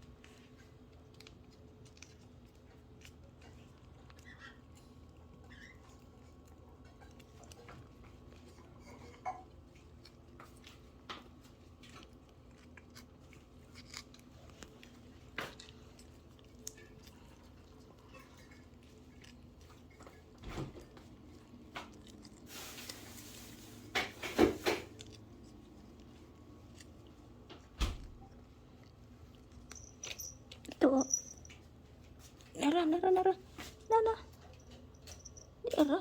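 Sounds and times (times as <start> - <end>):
cats crunching treats: 0.0 - 36.0.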